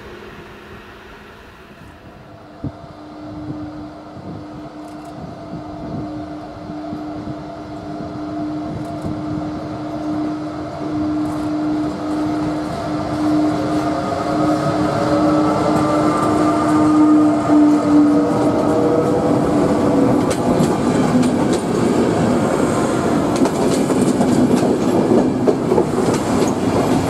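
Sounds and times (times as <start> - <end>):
electric locomotive whine: 0.0 - 27.0
train wheels rumbling: 0.0 - 27.0.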